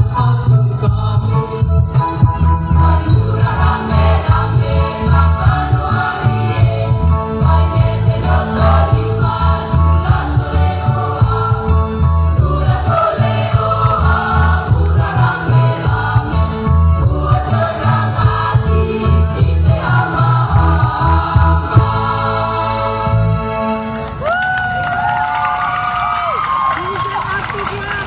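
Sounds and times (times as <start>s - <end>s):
choir singing: 0.0s - 23.8s
steady low beat: 0.2s - 23.3s.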